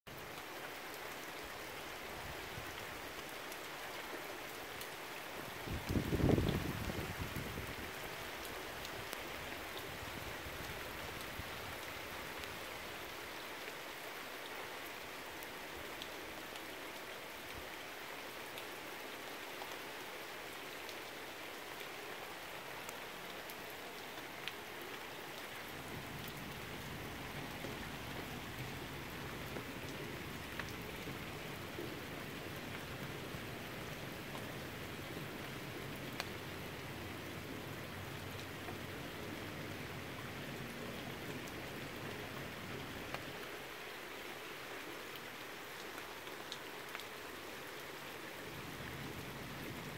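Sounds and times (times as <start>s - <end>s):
steady rain patter: 0.0s - 49.9s.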